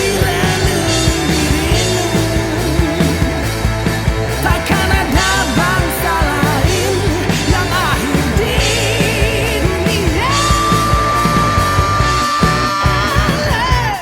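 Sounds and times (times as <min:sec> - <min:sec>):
rock band playing: 0:00.0 - 0:14.0
wavering lead vocal: 0:00.0 - 0:14.0.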